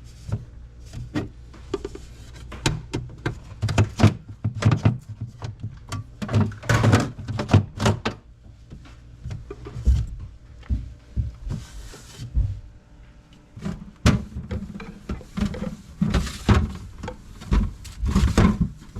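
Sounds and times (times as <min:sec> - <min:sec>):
objects knocking and clunking: 0:00.3 - 0:11.6, 0:13.6 - 0:18.9.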